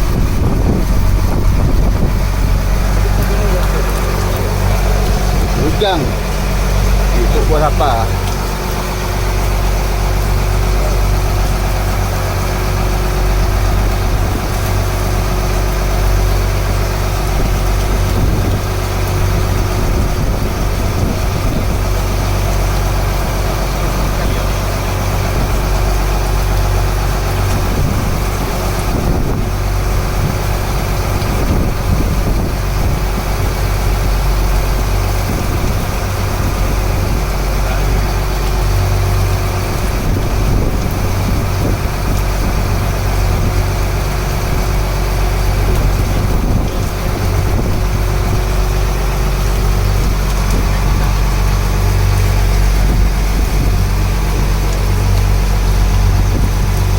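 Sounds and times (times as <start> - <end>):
boat engine running: 0.0 - 56.9
rain hiss: 0.0 - 56.9.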